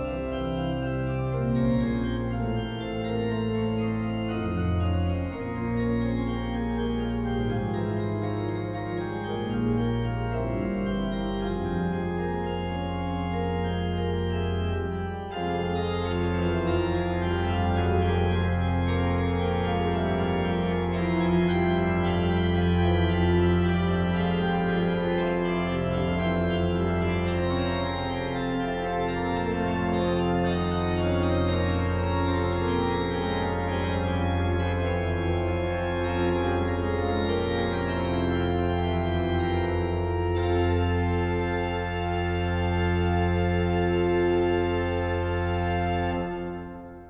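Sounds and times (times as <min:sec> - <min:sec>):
long-held organ bass note: 0:00.0 - 0:47.0
organ playing sustained chords: 0:00.0 - 0:47.0.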